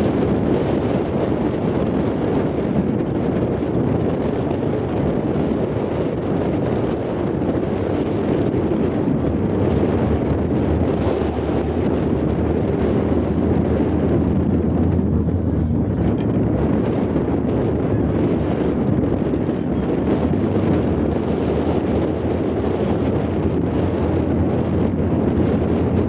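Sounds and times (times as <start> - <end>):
car engine idling: 0.0 - 26.0
wind on microphone: 0.0 - 26.0.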